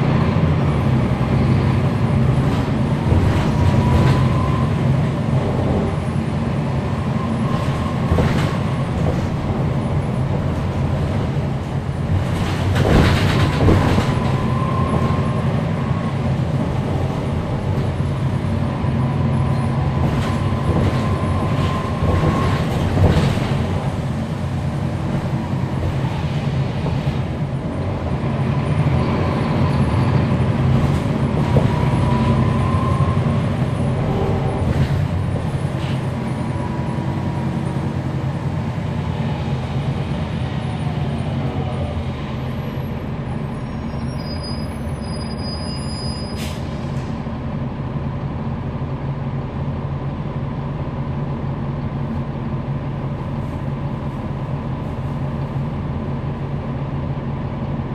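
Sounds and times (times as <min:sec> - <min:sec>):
bus engine drone: 0:00.0 - 0:57.9.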